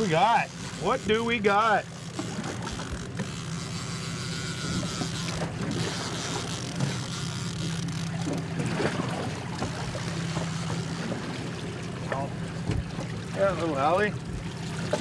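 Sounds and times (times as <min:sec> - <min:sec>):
outboard motor idling: 0:00.0 - 0:15.0
water noise: 0:00.0 - 0:15.0
wind: 0:00.0 - 0:15.0.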